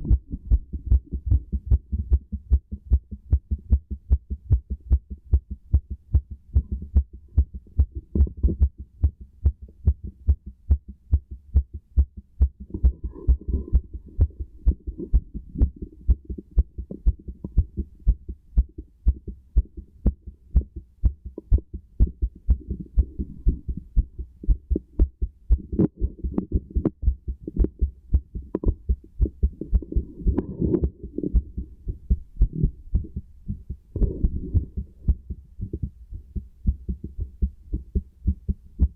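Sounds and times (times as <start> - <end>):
heartbeat through a stethoscope: 0.0 - 38.9.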